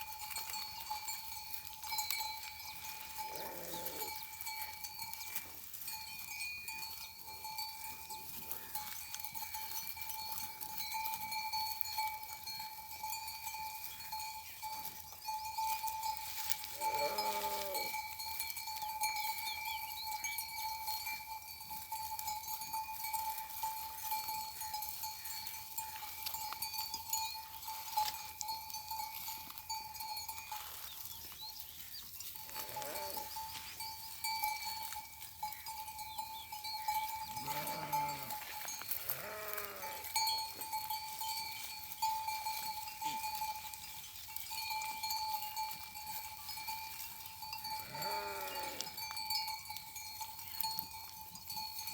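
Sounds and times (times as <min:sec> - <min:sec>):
sheep and goats bleating: 0:00.0 - 0:31.3, 0:32.2 - 0:43.8, 0:44.7 - 0:51.5
animal bells clinking: 0:00.0 - 0:51.9.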